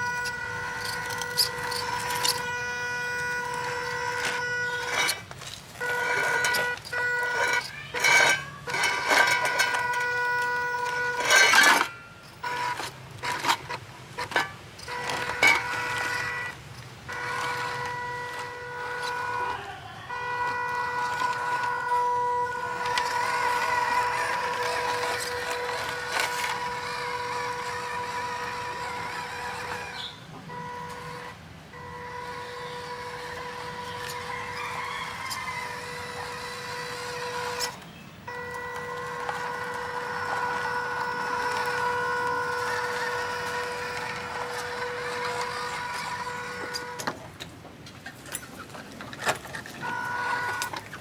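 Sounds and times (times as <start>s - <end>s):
toy car motor whining: 0.0s - 47.4s, 48.3s - 51.0s.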